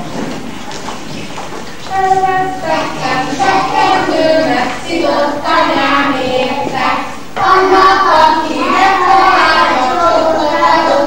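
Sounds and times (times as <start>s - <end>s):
children singing together: 1.9s - 11.0s.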